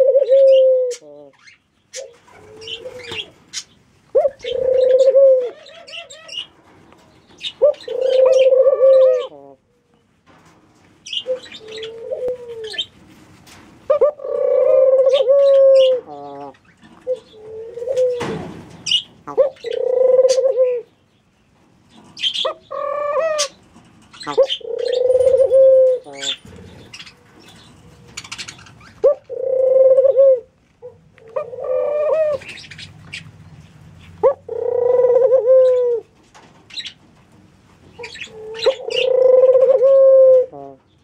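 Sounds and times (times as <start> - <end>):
doves cooing: 0.0 - 6.6, 7.4 - 9.9, 11.1 - 20.9, 22.2 - 33.4, 34.0 - 37.0, 37.9 - 41.0.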